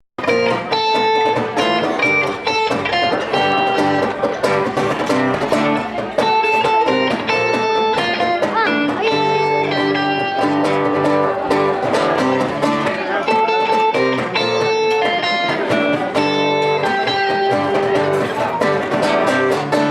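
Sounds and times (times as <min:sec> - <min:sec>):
guitar-led music: 0:00.2 - 0:19.9.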